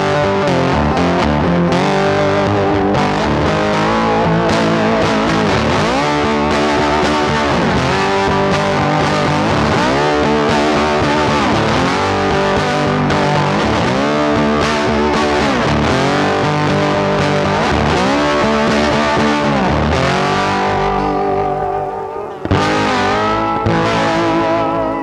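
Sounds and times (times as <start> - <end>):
distorted electric guitar music: 0.0 - 25.0.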